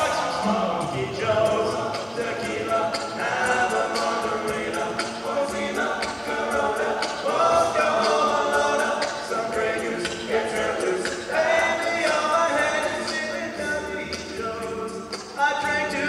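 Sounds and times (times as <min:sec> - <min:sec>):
male group singing in harmony: 0:00.0 - 0:16.0
vocal percussion beat: 0:00.0 - 0:16.0.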